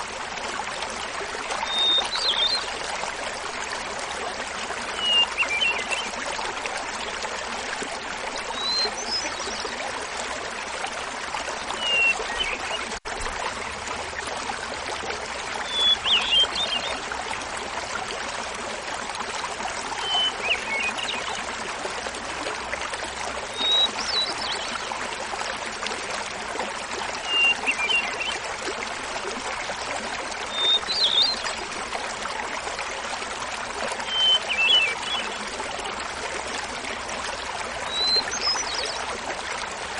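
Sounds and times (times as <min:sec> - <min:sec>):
small waterfall babbling: 0:00.0 - 0:39.9.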